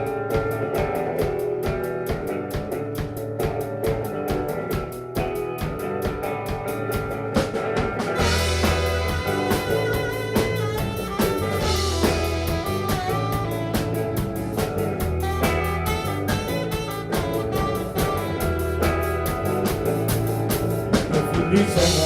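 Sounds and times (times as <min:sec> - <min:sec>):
drum kit steady beat: 0:00.0 - 0:22.0
guitar: 0:00.0 - 0:22.0.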